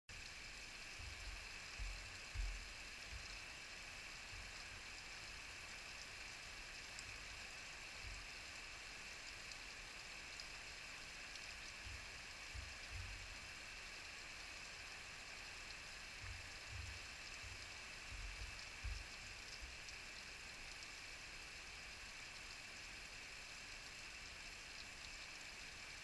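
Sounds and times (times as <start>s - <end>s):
small waterfall splashing: 0.1s - 26.0s.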